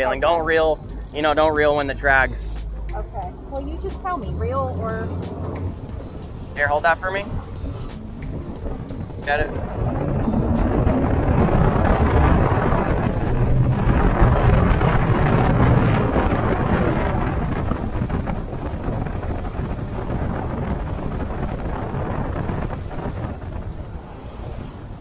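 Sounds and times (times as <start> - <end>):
outboard motor running: 0.0 - 24.0
wind buffeting microphone: 0.0 - 25.0.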